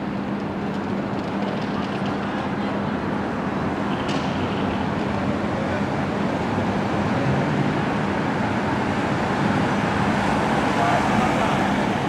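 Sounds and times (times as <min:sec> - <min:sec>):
cars passing slowly: 0:00.0 - 0:12.0.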